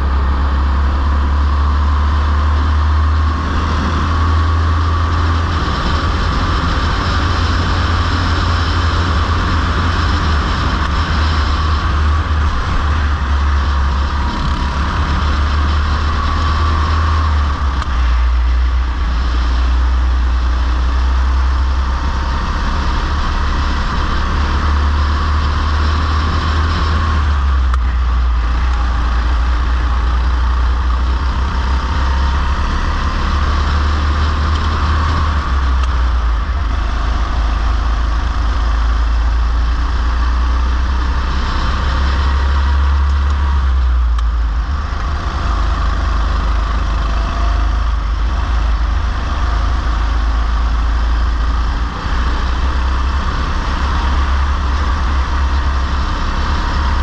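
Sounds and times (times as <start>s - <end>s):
go-kart engine running: 0.0s - 57.0s
heavy low rumble: 0.0s - 57.0s.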